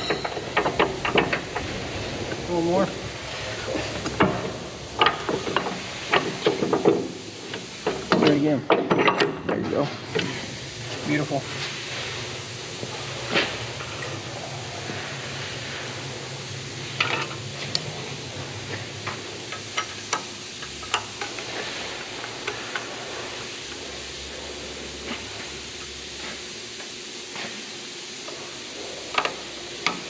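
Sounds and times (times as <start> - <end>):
shop background hiss: 0.0 - 30.0.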